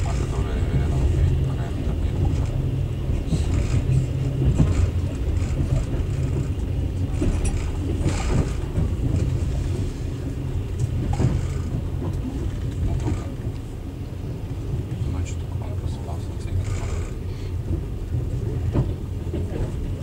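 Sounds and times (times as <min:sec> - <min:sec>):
train wheels clattering: 0:00.0 - 0:20.0
train wheels rumbling on rails: 0:00.0 - 0:20.0.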